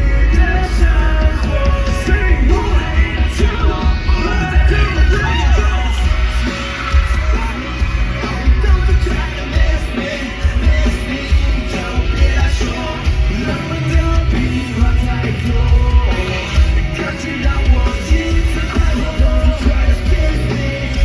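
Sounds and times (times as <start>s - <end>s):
drums: 0.0s - 21.0s
heavy bass: 0.0s - 21.0s
live rock band playing: 0.0s - 21.0s
person singing: 0.0s - 21.0s.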